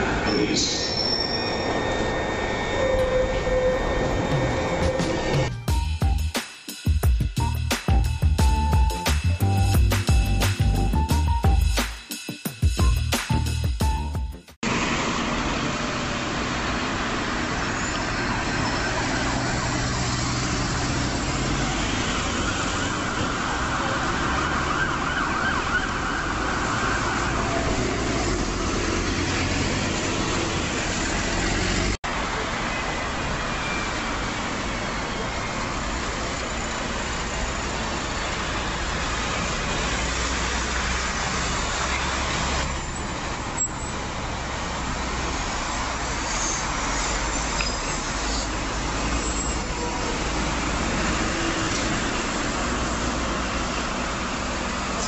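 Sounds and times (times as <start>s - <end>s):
city road traffic: 0.0s - 55.0s.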